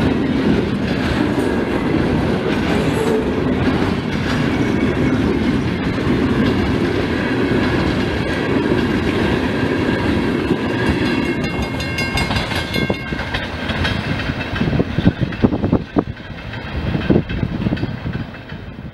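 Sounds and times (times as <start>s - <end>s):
wheels knocking over rail joints: 0.0s - 18.7s
freight train wheels rumbling: 0.0s - 18.9s.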